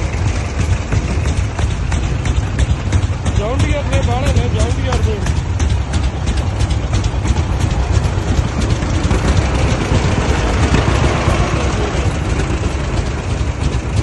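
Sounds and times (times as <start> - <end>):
heavy engine rumbling: 0.0 - 14.0.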